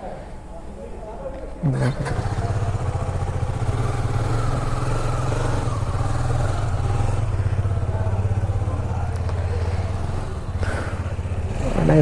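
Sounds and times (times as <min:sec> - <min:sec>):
motorcycle engine idling: 0:01.6 - 0:12.0.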